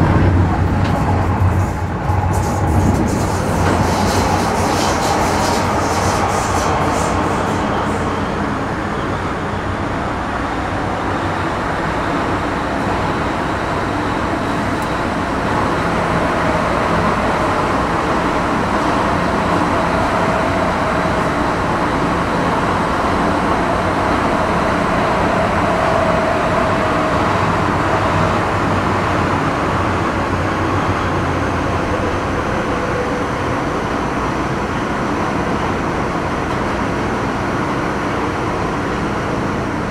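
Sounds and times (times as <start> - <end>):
train wheels rumbling: 0.0 - 39.8.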